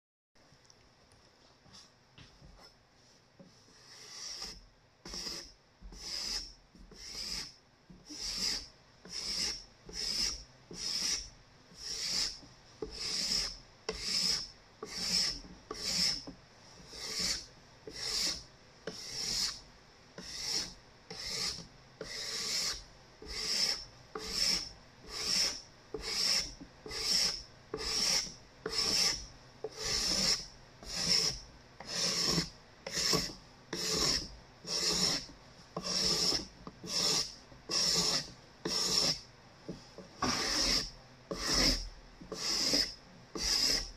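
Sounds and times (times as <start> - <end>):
card scraper rasping on wood: 3.7 - 19.6, 20.2 - 39.2, 40.2 - 43.9.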